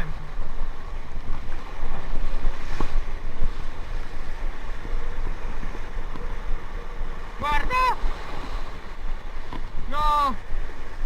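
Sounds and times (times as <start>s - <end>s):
rough sea washing: 0.0s - 11.0s
wind buffeting microphone: 0.0s - 11.0s.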